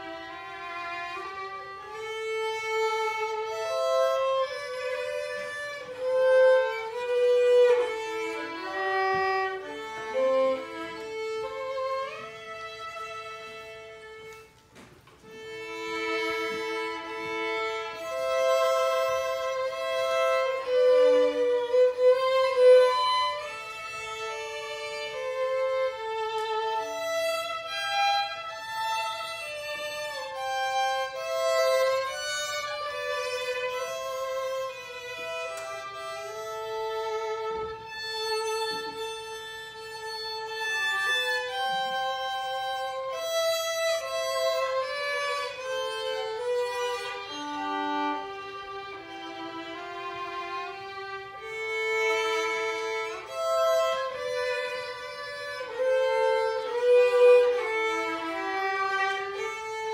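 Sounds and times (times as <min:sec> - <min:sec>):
two violins playing duet: 0:00.0 - 0:59.9.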